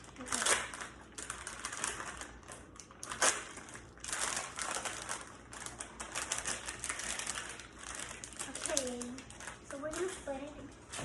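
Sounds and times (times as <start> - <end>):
crinkling handling noise: 0.0 - 11.0.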